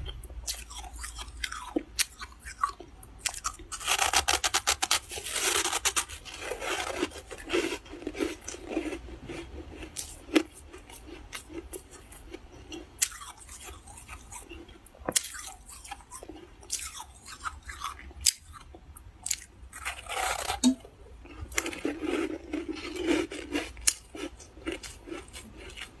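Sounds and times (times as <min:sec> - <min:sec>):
crunching and chewing frost: 0:00.0 - 0:26.0.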